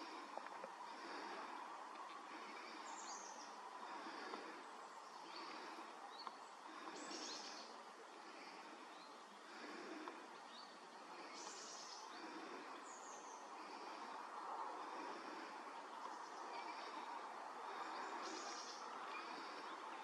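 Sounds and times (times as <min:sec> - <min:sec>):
faint background noise: 0:00.0 - 0:20.0
small birds calling: 0:00.0 - 0:20.0.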